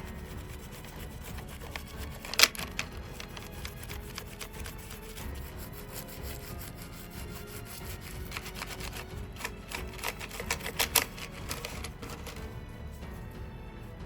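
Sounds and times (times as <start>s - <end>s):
hand tool scraping hard part: 0.0s - 12.5s.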